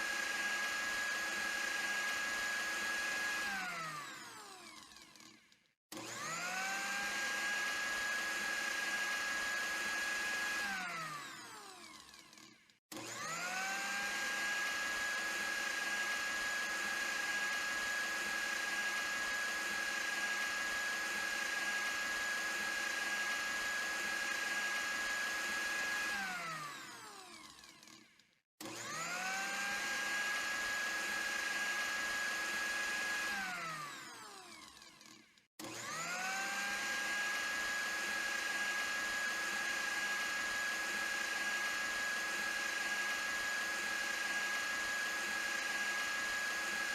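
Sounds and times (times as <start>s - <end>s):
electric blender motor whining: 0.0s - 46.9s.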